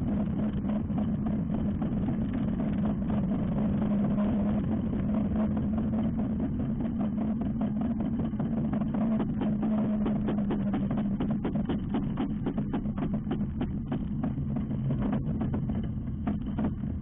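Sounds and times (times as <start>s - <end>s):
microlight aircraft engine and propeller: 0.0s - 17.0s.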